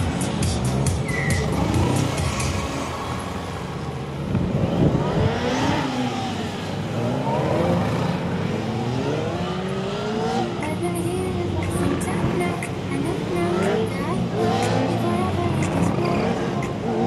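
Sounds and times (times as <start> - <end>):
motorcycle engine revving: 0.0 - 11.0, 11.6 - 17.0.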